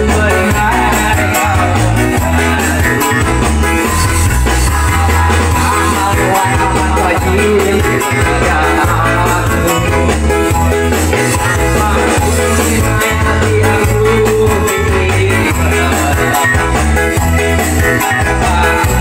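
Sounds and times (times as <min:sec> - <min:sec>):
upbeat pop dance song: 0:00.0 - 0:19.0.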